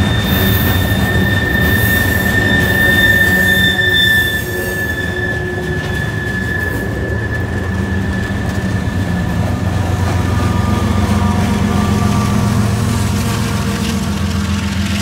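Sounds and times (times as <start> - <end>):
diesel locomotive humming: 0.0 - 15.0
freight cars rolling on rails: 0.0 - 15.0
wheel squeal: 0.0 - 15.0.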